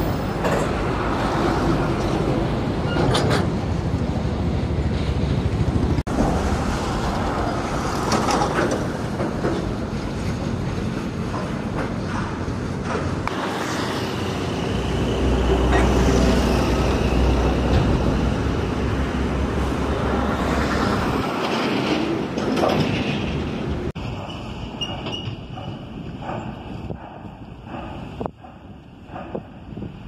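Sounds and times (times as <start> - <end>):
freight train wagons rumbling: 0.0 - 30.0
wheels clicking over rail joints: 0.0 - 30.0.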